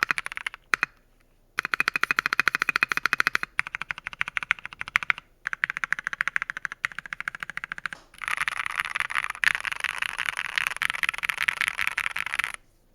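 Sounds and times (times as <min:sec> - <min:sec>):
fast mechanical keyboard typing: 0:00.0 - 0:01.0, 0:01.6 - 0:12.6.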